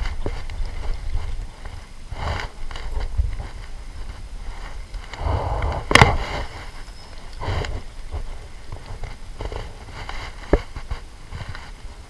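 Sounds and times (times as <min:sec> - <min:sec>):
microphone handling rustle: 0:00.0 - 0:12.0
wind rumble on microphone: 0:00.0 - 0:12.0.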